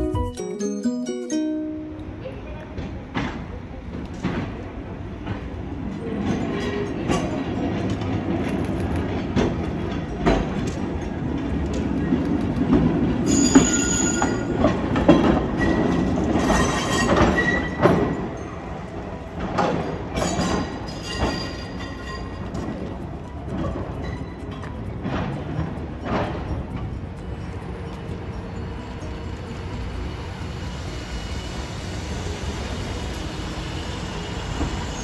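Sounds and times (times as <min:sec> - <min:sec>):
tram rumbling past: 0:00.0 - 0:35.0
tram wheels squealing: 0:05.7 - 0:35.0.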